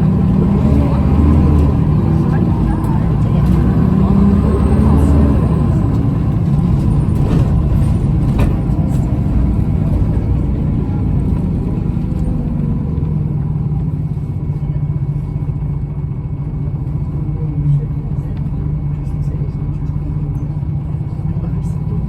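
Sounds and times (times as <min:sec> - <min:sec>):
bus diesel engine drone: 0:00.0 - 0:22.0.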